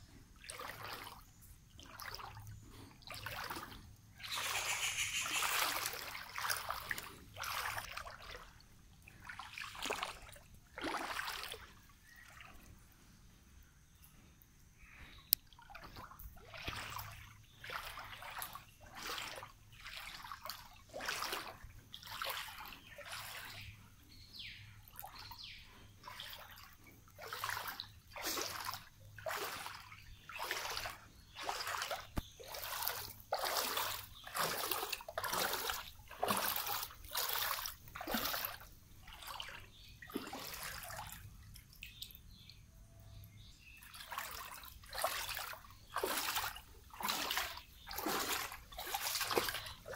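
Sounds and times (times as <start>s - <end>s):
wading through water splashes: 0.3s - 13.0s, 14.8s - 42.5s, 43.2s - 49.9s.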